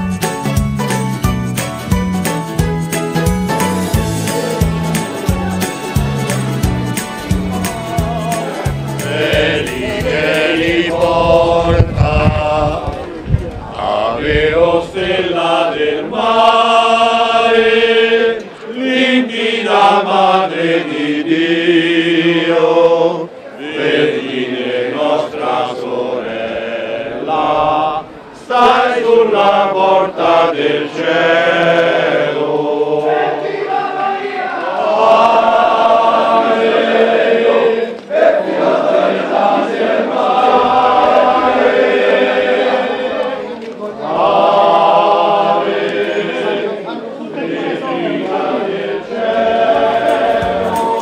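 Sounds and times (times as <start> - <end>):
men singing a chant: 7.5 - 13.1, 13.7 - 51.0.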